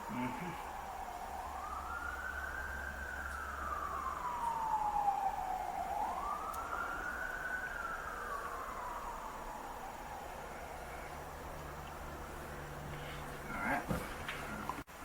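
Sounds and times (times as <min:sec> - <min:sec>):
siren wailing: 0:00.0 - 0:13.9.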